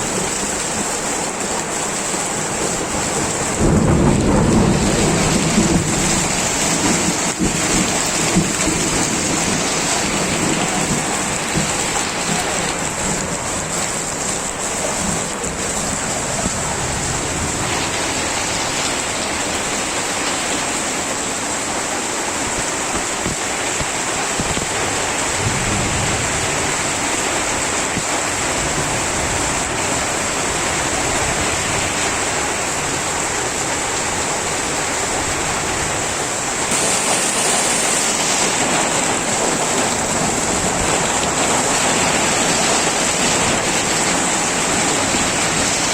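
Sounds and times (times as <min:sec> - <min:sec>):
thunder rumble: 0:00.0 - 0:21.7, 0:24.3 - 0:45.9
heavy rain pouring: 0:00.0 - 0:45.9.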